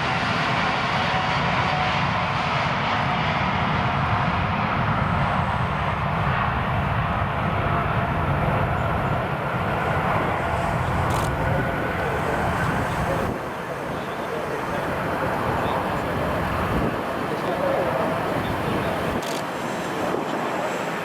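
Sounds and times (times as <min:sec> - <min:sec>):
jet engines and airflow rumble: 0:00.0 - 0:21.0.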